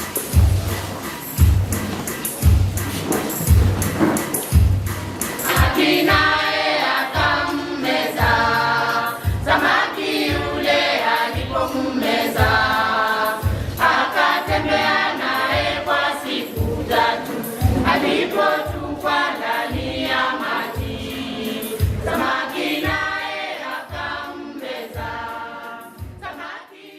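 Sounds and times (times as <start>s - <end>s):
steady beat: 0.0s - 26.4s
choir singing gospel song: 5.2s - 26.9s.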